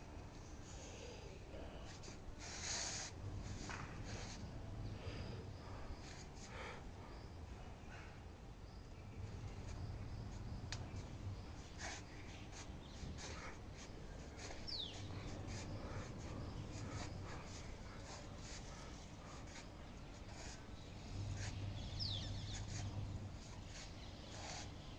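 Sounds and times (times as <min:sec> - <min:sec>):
birds chirping: 0:04.8 - 0:24.9.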